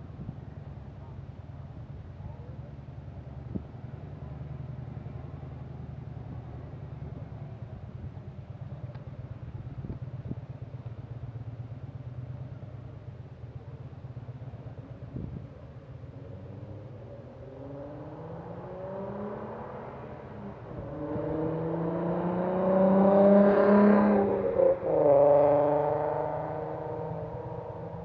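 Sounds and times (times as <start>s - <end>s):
vehicle engines droning: 0.0s - 28.0s.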